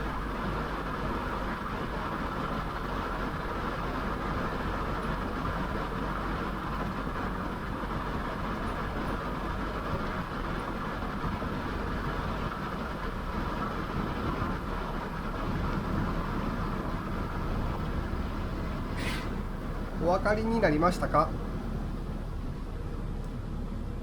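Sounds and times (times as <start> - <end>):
low droning car noise: 0.0 - 24.0
road and tyre noise: 0.0 - 24.0.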